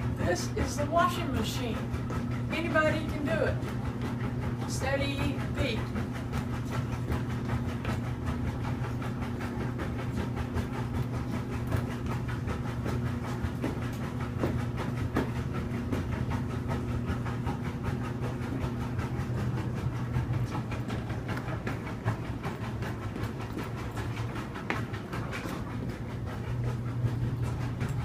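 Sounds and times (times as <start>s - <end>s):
steady mechanical hum: 0.0s - 28.0s.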